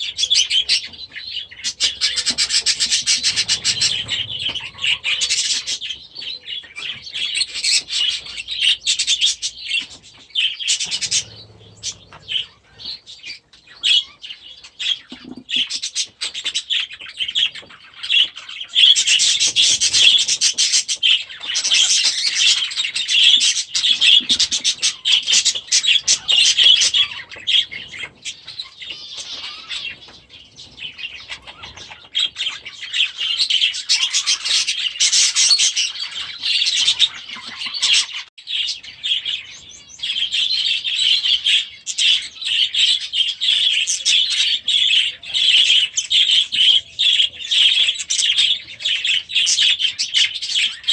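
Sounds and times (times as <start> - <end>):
budgerigars chattering and chirping: 0.0 - 50.9.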